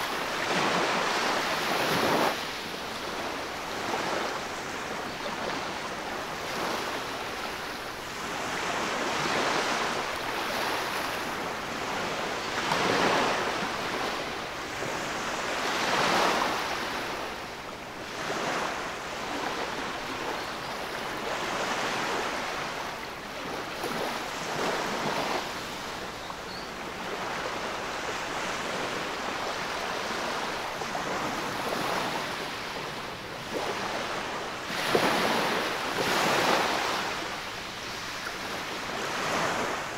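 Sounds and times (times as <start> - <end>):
waves washing on beach: 0.0 - 39.9.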